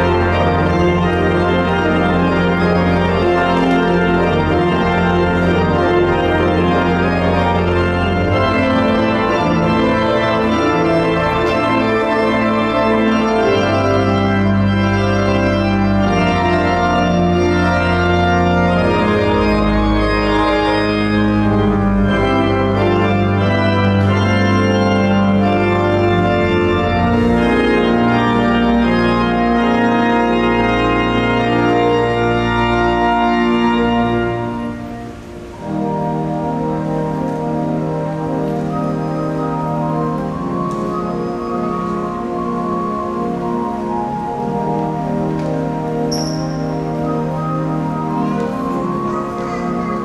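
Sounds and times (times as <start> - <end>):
pipe organ chords: 0.0 - 50.0.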